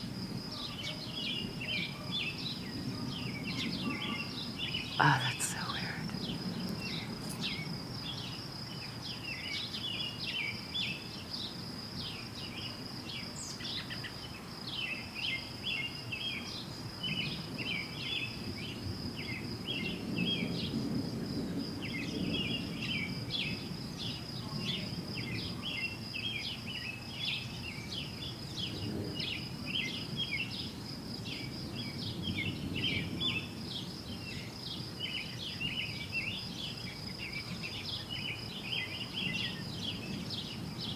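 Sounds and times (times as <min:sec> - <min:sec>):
high insect trill: 0:00.0 - 0:40.9
songbirds chirping: 0:00.0 - 0:40.9.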